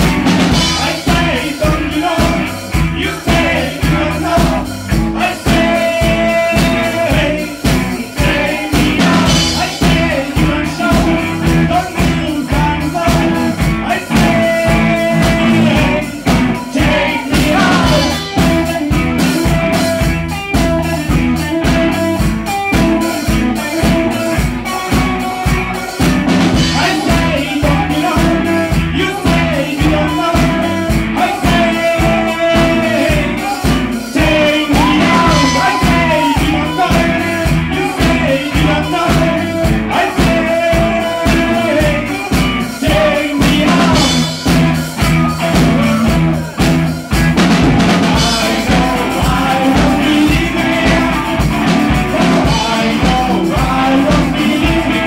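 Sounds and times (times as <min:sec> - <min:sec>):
drum kit beat: 0:00.0 - 0:55.0
person singing: 0:00.0 - 0:55.0
rock band playing: 0:00.0 - 0:55.0.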